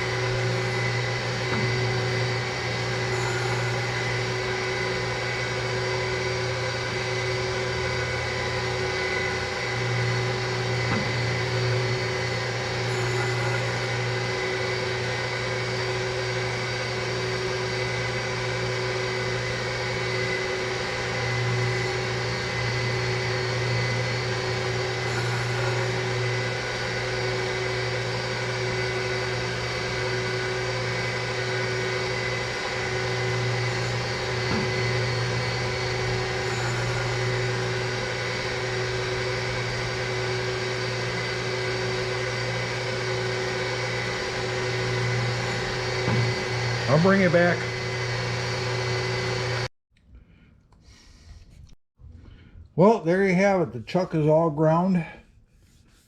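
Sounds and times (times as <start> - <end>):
surface grinder running: 0.0 - 49.7.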